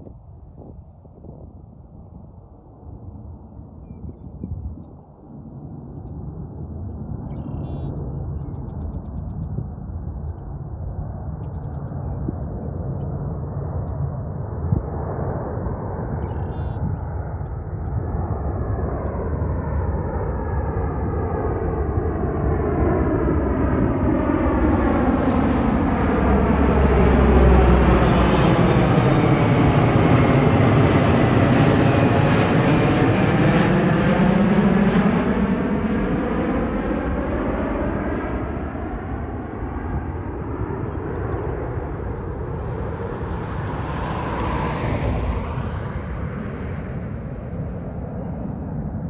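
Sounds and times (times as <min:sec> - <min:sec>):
jet engines rumbling: 0:00.0 - 0:49.0.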